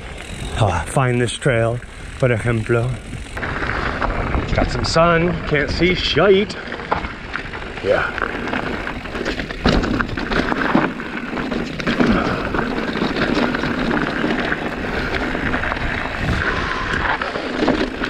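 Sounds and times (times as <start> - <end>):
bike frame and chain rattling: 0.0 - 18.0
bike tyres rumbling on dirt: 0.0 - 18.0.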